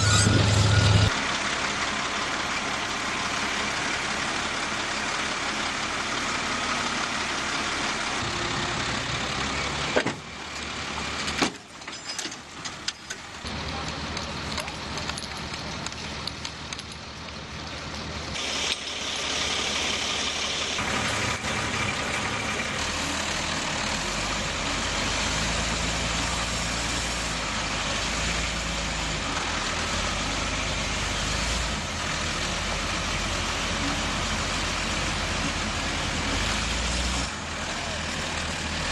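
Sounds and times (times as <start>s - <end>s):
heavy vehicle engines running: 0.0s - 38.9s.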